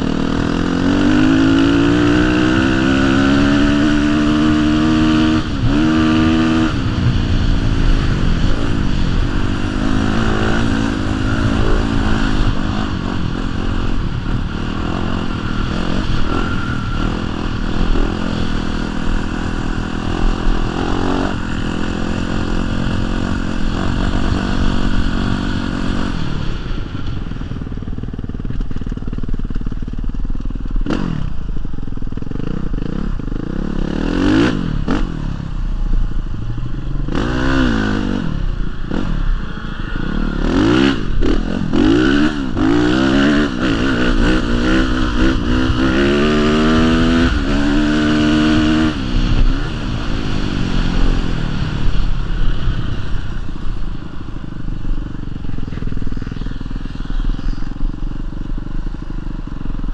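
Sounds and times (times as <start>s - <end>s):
dirt bike engine revving: 0.0s - 35.8s, 36.5s - 59.9s.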